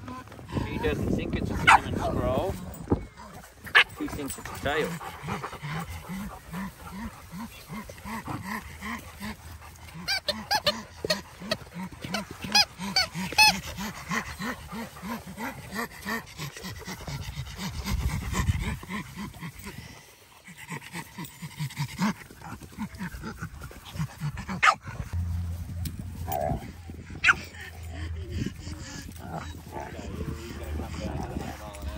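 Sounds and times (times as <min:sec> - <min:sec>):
dog panting: 0:00.0 - 0:25.2, 0:26.3 - 0:31.9.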